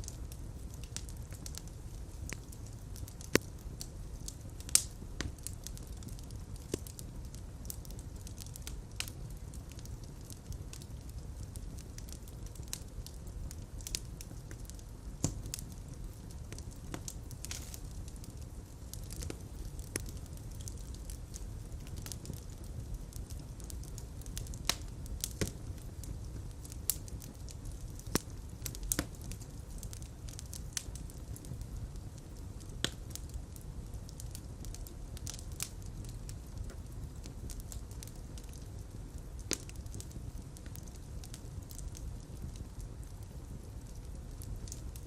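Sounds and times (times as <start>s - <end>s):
fire crackling: 0.0s - 45.0s.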